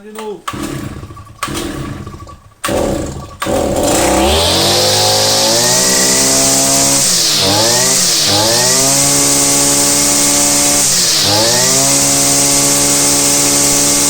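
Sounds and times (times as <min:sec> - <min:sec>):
brush cutter engine starting and running: 0:00.0 - 0:14.0.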